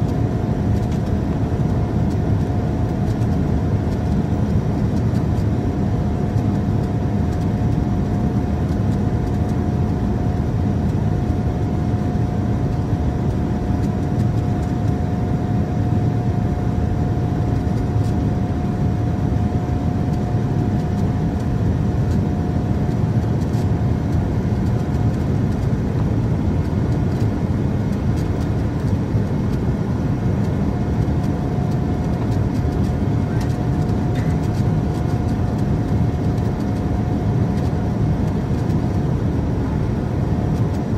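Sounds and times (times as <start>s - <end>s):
airplane cabin engine rumble: 0.0s - 40.9s
steady airflow: 0.0s - 40.9s.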